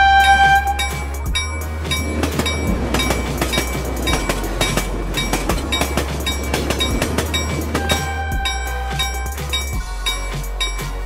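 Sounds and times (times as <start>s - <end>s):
low rumble: 0.0s - 11.0s
train wheels clacking over rails: 0.0s - 11.0s.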